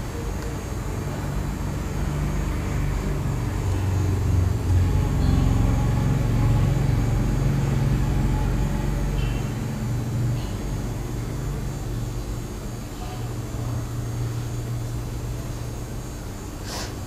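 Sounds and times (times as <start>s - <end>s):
low rumble and hum: 0.0s - 17.0s.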